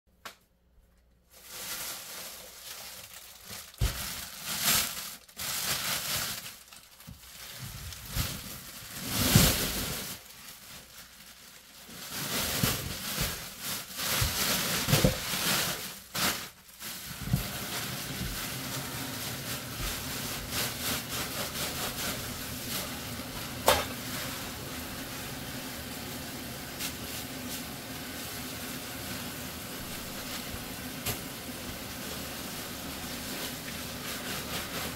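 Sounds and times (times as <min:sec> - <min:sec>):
plastic bags crinkling: 0:01.2 - 0:34.9.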